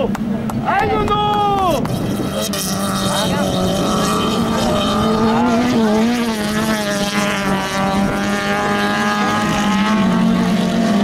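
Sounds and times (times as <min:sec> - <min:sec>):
race car engines revving: 0:00.0 - 0:11.0.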